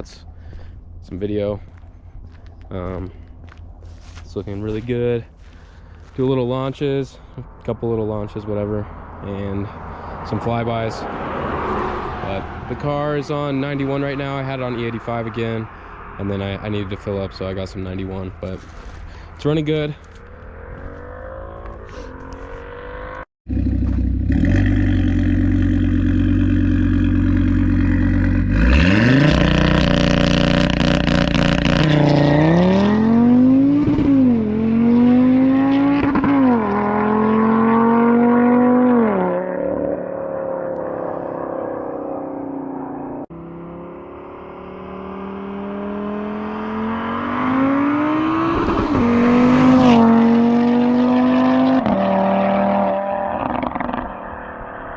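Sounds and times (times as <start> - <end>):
car engine revving and accelerating: 8.4 - 15.2, 16.1 - 54.9.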